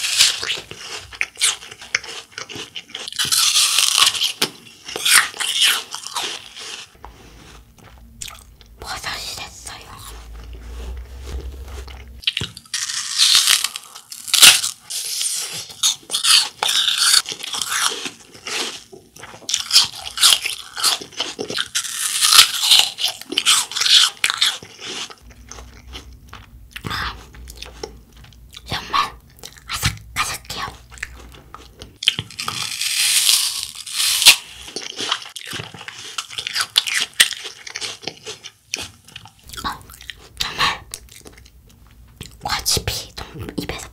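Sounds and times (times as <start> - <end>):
apple crunching while chewed: 0.0 - 43.9.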